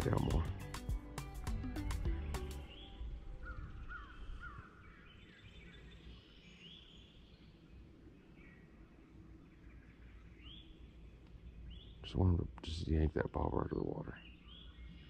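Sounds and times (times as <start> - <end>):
faint bird chirps: 0.0 - 0.5, 2.2 - 15.0.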